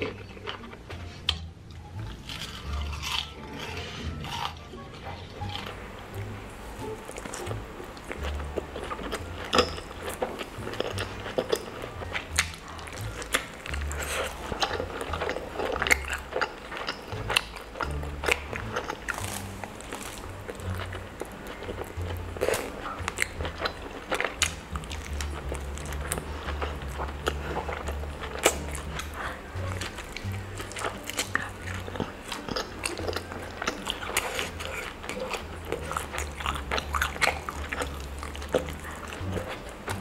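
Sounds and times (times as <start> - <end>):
wet chewing and crunching: 0.0 - 40.0
lip smacks: 5.6 - 40.0.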